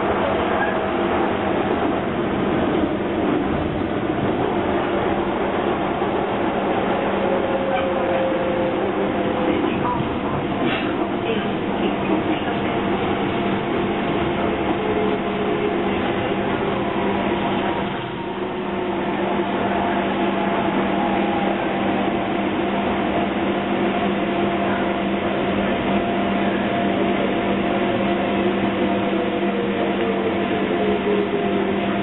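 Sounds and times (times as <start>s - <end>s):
steady train hum: 0.0s - 32.0s
train rolling noise: 0.0s - 32.0s.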